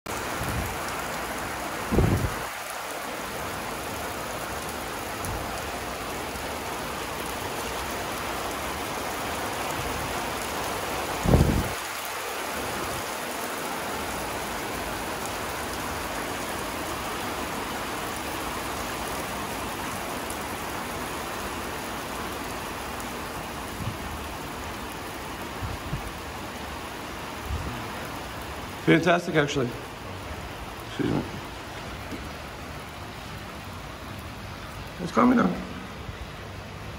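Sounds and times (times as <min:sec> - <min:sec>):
rain falling on rooftop: 0:00.1 - 0:36.9.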